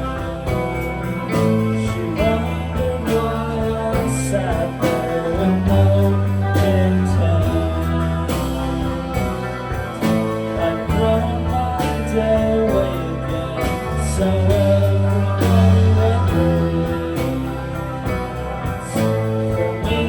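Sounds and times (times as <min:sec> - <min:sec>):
bending lead guitar line: 0:00.0 - 0:20.0
live band playing: 0:00.0 - 0:20.0.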